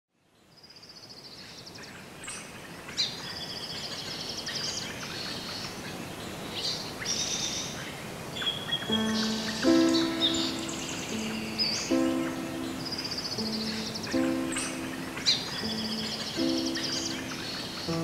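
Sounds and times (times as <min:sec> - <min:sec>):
steady background hiss: 0:00.4 - 0:18.0
birds singing and calling: 0:01.2 - 0:18.0.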